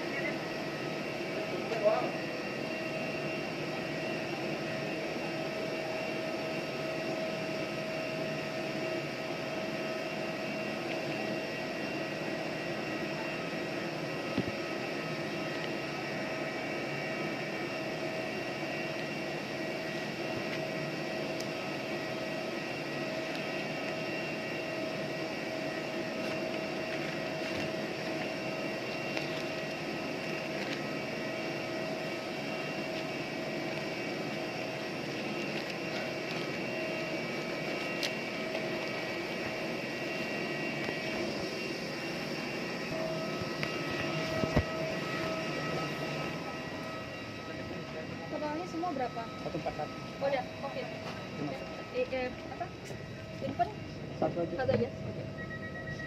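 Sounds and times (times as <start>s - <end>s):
jet turbine humming and whining: 0.0s - 56.0s.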